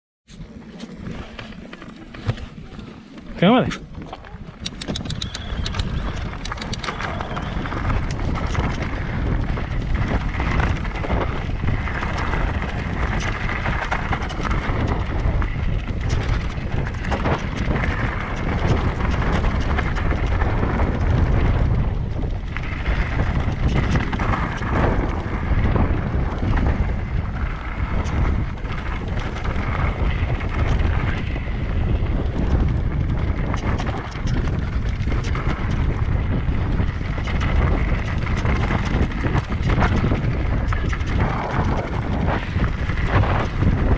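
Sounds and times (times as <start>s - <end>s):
wind buffeting microphone: 0.3s - 43.9s.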